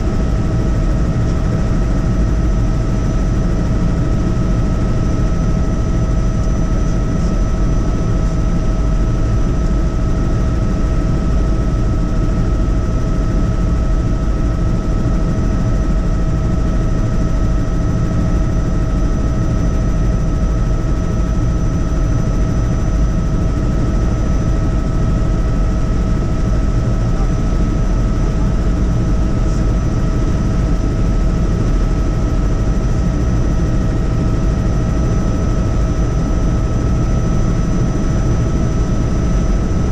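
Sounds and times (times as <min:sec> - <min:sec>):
helicopter rotor and engine rumble: 0:00.0 - 0:39.9
helicopter whine: 0:00.0 - 0:39.9.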